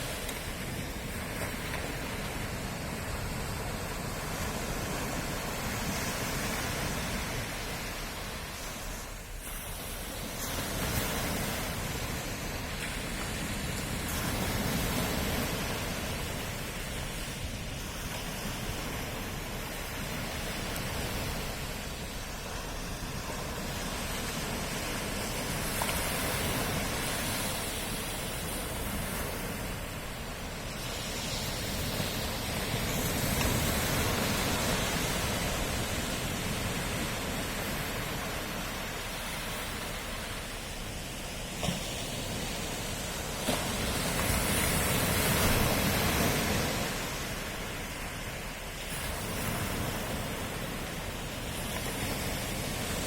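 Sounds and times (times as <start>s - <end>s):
ocean wave breaking: 0.0s - 53.0s
sea surf washing on shore: 0.0s - 53.0s.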